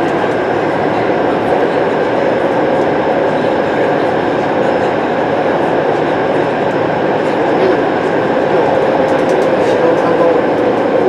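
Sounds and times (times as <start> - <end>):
steady train hum: 0.0 - 11.0
train wheels rumbling on rail: 0.0 - 11.0.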